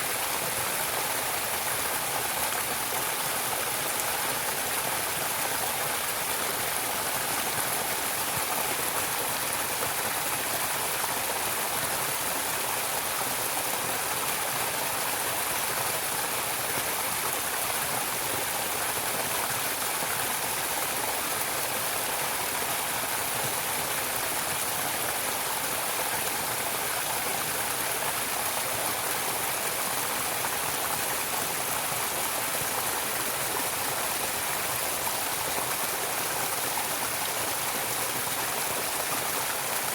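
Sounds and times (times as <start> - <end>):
running water stream: 0.0 - 39.9.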